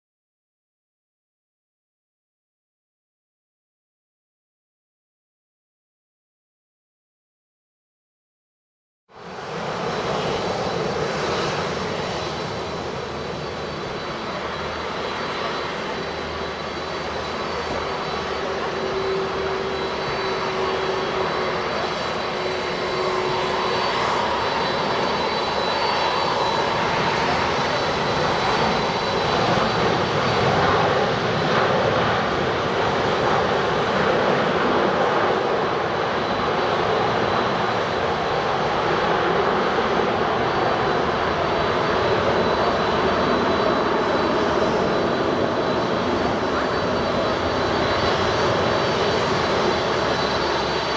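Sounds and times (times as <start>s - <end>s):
jet engines rushing with whine: 9.1s - 50.9s.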